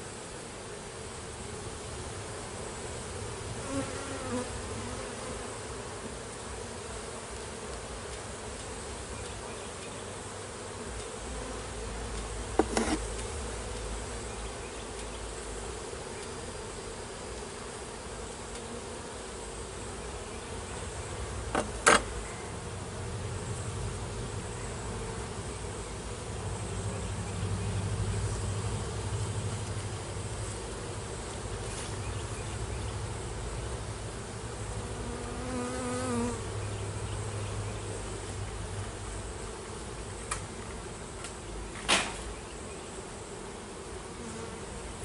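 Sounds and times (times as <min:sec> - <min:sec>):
honeybees buzzing: 0:00.0 - 0:45.0.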